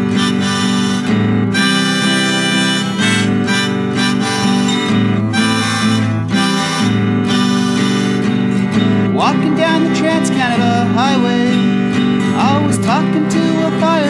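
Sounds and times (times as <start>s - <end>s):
harmonica playing: 0.0s - 14.0s
strummed acoustic guitar: 0.0s - 14.0s.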